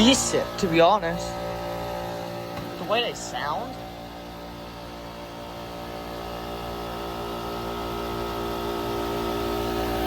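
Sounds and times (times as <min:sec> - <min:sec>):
air conditioner unit humming: 0:00.0 - 0:10.0.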